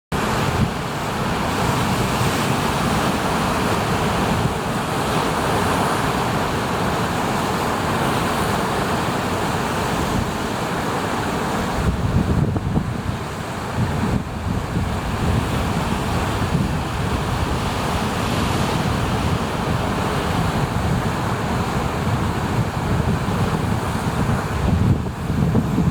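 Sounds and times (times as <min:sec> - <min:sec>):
big waves breaking: 0:00.1 - 0:25.9.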